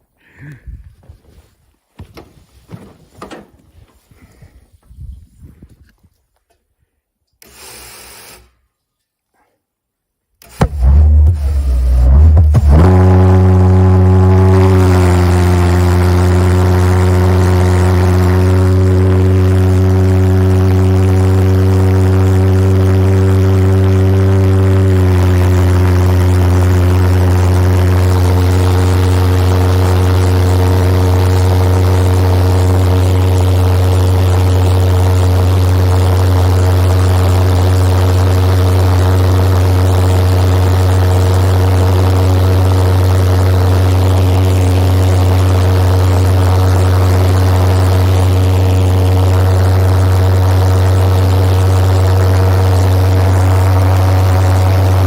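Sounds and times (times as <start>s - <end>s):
pulsejet engine buzzing drone: 10.4s - 55.0s.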